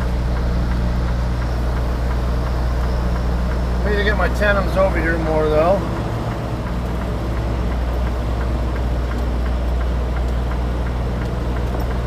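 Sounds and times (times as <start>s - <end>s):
diesel engine idling: 0.0s - 12.0s
faint light ticks: 0.3s - 12.0s.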